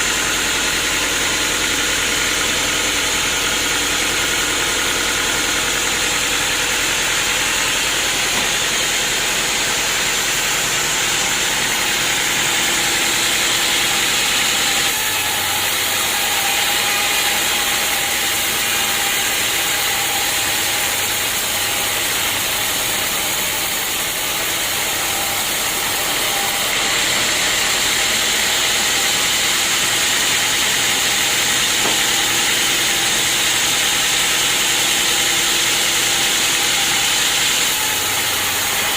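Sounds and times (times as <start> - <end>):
sawmill saw hissing: 0.0 - 38.9.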